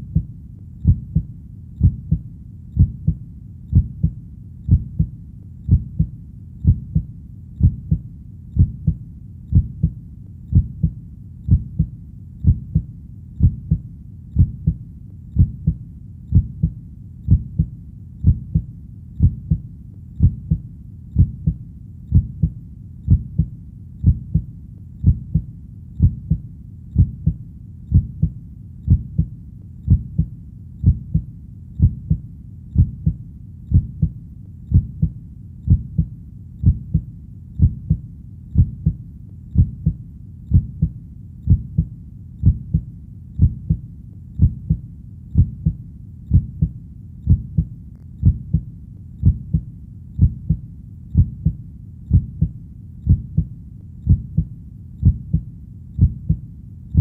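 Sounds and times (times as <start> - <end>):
heartbeat thumps: 0.0 - 57.0.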